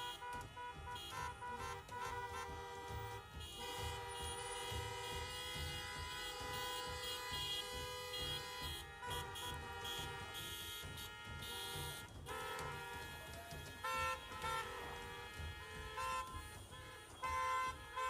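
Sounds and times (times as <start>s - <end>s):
car horns honking: 0.0s - 18.0s.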